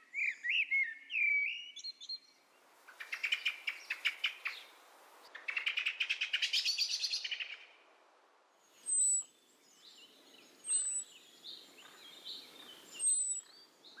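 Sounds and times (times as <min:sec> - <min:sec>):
soft bird chirps: 0:00.0 - 0:07.7, 0:08.6 - 0:14.0
songbird trill: 0:00.0 - 0:07.8, 0:08.6 - 0:14.0.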